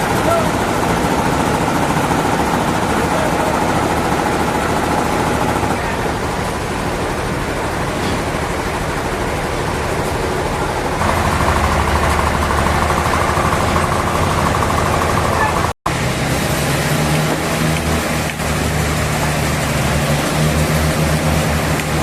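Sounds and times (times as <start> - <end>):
heavy machinery running: 0.0 - 22.0.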